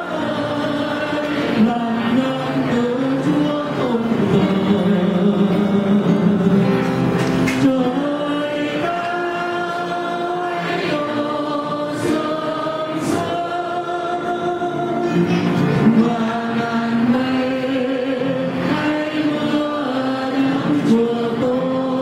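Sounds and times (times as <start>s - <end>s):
choir singing a slow hymn: 0.0s - 22.0s.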